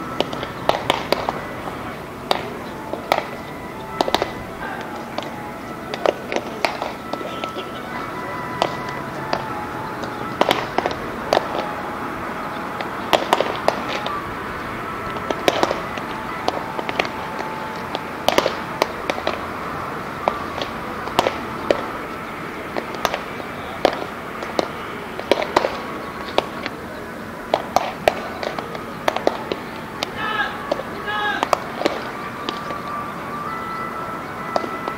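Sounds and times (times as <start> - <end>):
outdoor background hum: 0.0 - 34.9
baseballs smacking into gloves: 0.2 - 11.9, 12.5 - 14.3, 15.0 - 19.5, 20.1 - 26.8, 27.5 - 32.9, 34.5 - 34.9.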